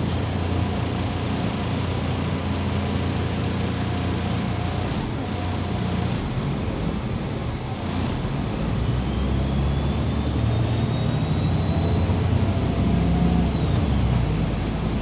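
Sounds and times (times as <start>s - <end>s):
bus engine hum: 0.0s - 15.0s
road and cabin noise: 0.0s - 15.0s.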